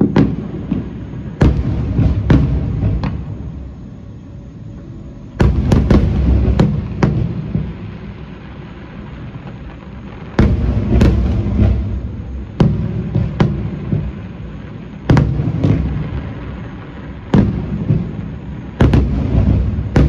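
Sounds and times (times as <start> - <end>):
fireworks deep boom: 0.0 - 20.0
fireworks sharp cracks: 0.0 - 20.0.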